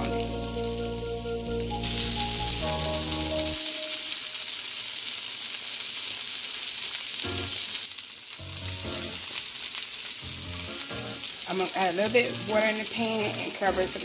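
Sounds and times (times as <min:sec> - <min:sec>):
burger patties sizzling in a frying pan: 0:00.0 - 0:14.0.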